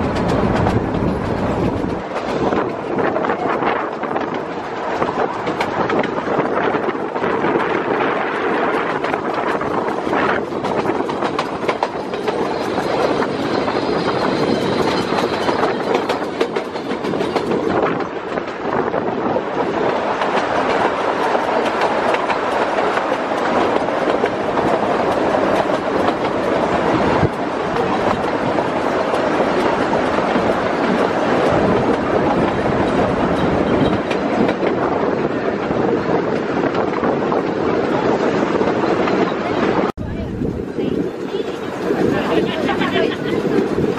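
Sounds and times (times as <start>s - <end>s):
wheels clattering over rail joints: 0.0s - 18.6s, 19.8s - 37.6s
steam train rumbling: 0.0s - 43.9s.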